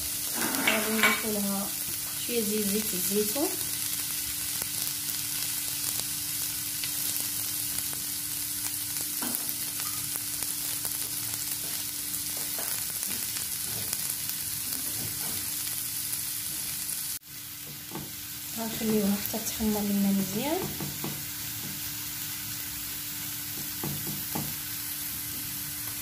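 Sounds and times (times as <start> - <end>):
onion sizzling in oil: 0.0 - 26.0.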